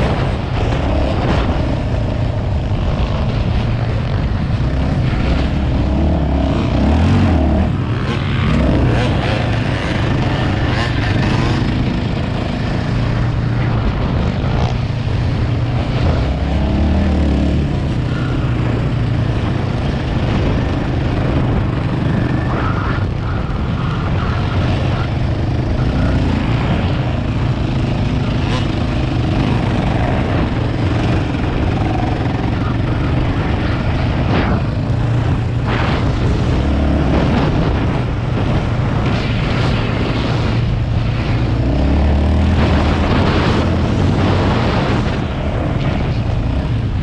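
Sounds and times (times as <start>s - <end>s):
atv engine running under throttle: 0.0s - 47.0s.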